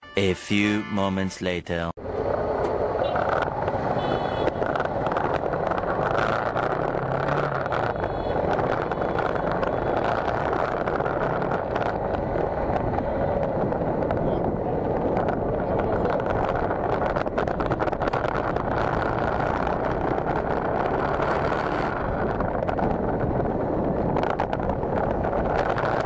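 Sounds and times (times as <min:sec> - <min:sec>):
motorcycle engine at road speed: 0:02.0 - 0:26.0
wind noise on microphone: 0:03.0 - 0:26.0.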